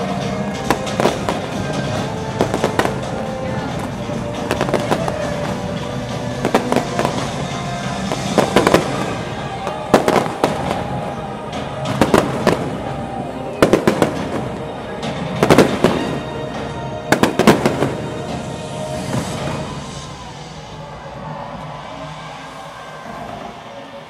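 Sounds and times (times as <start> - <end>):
fireworks bangs and crackles: 0.0 - 20.6
music: 0.0 - 24.0.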